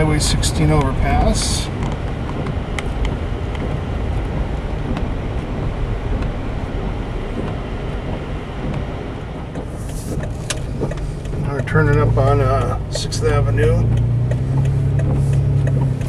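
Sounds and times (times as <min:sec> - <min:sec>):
low rumble of engine and tyres: 0:00.0 - 0:16.0.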